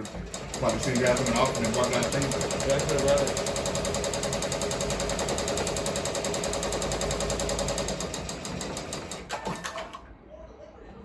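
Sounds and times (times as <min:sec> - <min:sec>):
embroidery machine stitching: 0:00.0 - 0:10.0.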